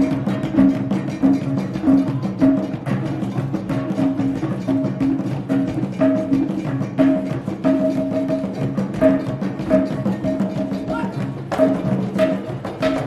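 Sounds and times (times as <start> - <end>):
pitched drums playing: 0.0 - 13.0.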